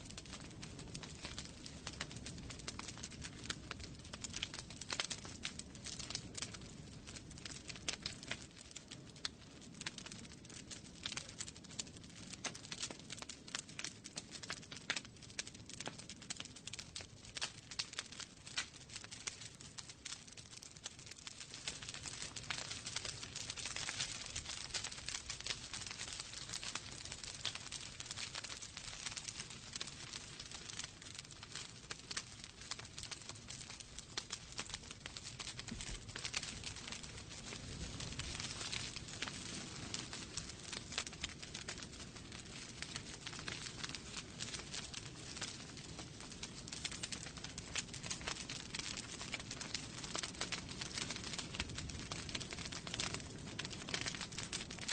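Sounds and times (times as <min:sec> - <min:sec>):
low rumble of flames: 0:00.0 - 0:54.9
wood fire crackling: 0:00.0 - 0:54.9.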